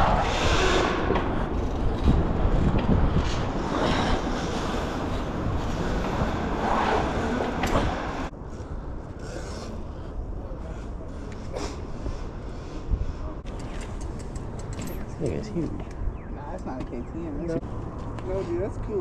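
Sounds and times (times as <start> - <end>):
road noise: 0.0 - 19.0
wind rush on microphone: 0.0 - 19.0.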